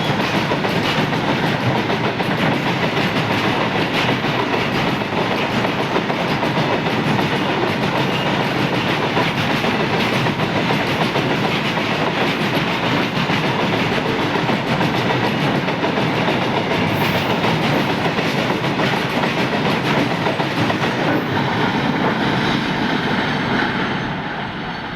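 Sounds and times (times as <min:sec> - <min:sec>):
freight train rumbling past: 0:00.0 - 0:24.9.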